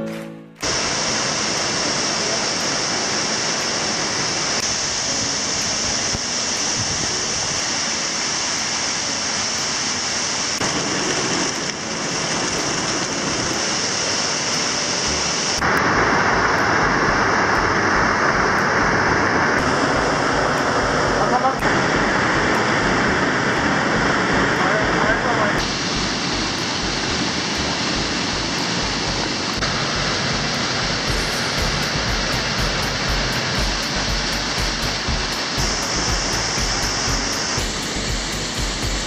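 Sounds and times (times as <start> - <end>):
waterfall rushing and splashing: 0.0 - 39.0.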